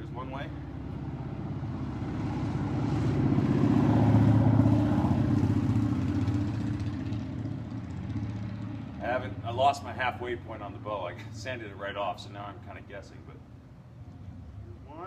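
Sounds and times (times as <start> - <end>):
vehicle engine running: 0.0 - 12.7.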